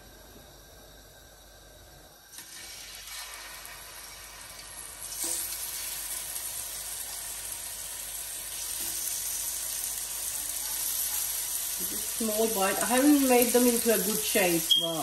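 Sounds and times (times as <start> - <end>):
meat sizzling in oil: 2.3 - 15.0.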